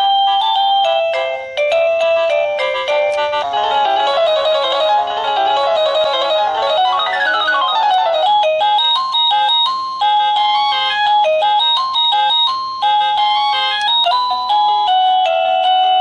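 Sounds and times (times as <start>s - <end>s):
electronic doorbell melody: 0.0s - 16.0s.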